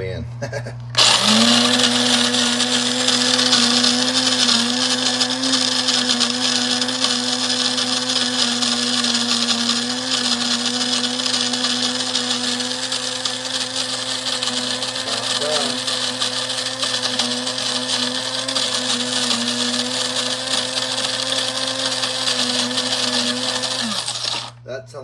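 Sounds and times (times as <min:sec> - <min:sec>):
coffee grinder grinding beans: 0:01.0 - 0:24.6.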